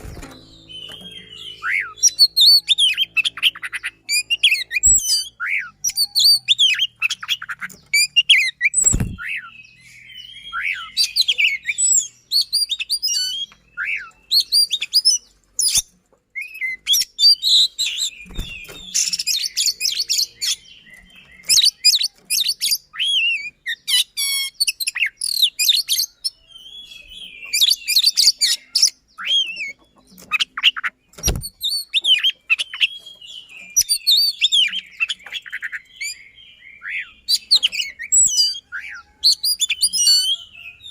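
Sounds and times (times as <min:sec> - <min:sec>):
bird singing rapid whistles: 0:00.0 - 0:40.9.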